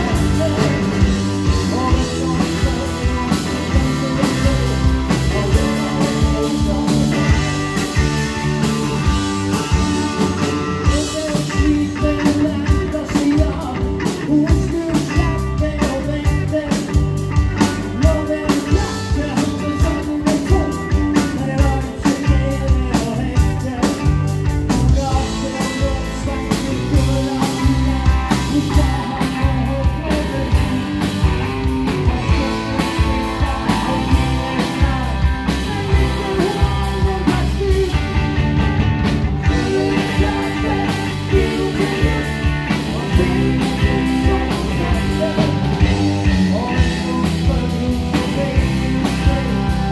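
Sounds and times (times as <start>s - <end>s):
bass guitar: 0.0s - 49.9s
electric guitars: 0.0s - 49.9s.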